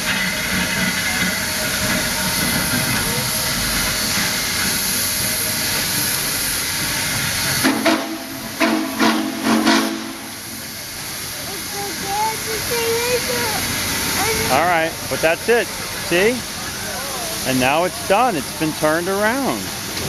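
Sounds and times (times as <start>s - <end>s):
steam locomotive hissing steam: 0.0s - 20.0s
short steam bursts: 1.4s - 20.0s.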